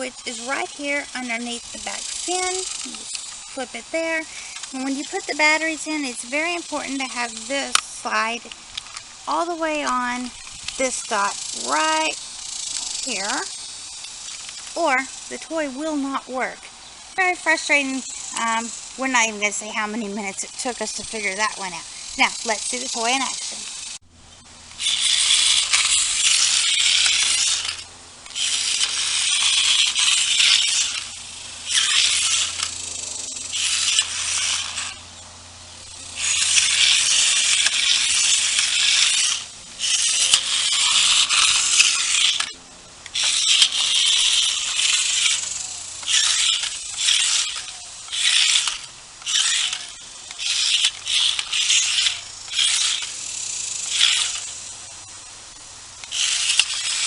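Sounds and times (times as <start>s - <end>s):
toy motors whirring and rattling: 0.0s - 24.0s, 24.6s - 57.0s.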